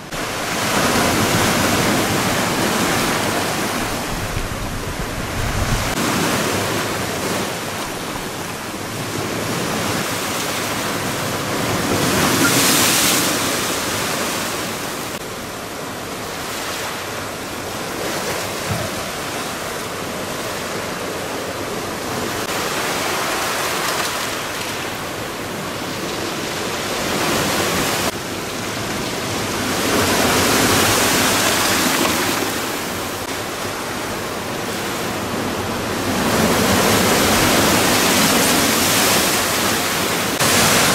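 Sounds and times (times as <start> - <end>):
storm surf crashing on rocks: 0.0 - 40.9.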